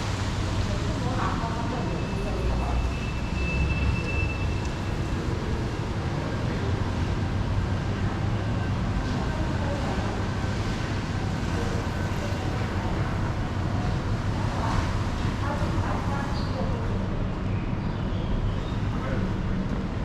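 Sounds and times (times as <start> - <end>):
low rumble of passing vehicles: 0.0 - 20.0.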